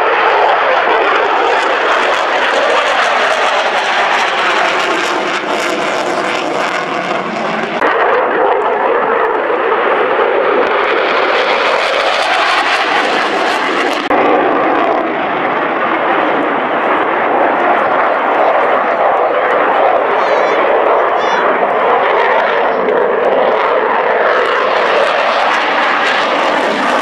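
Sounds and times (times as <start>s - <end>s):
fighter jet engines roaring: 0.0s - 27.0s.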